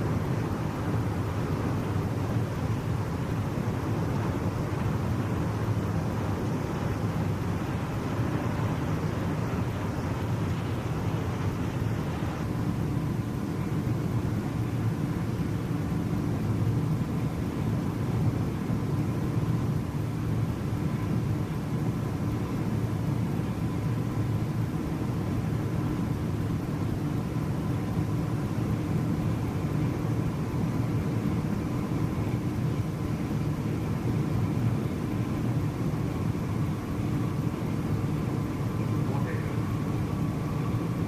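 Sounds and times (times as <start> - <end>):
faint constant hum: 0.0 - 41.0
low mechanical rumble: 0.0 - 41.0.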